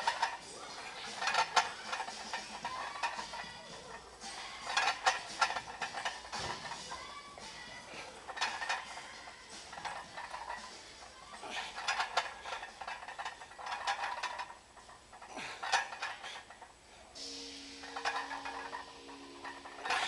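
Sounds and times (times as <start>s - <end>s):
weight plates rattling: 0.0s - 16.7s, 17.7s - 20.0s.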